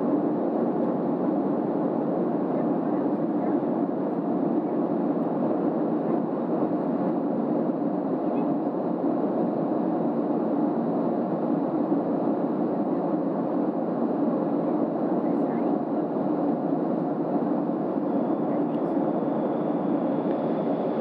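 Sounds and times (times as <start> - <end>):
airplane cabin engine and airflow noise: 0.0 - 21.0.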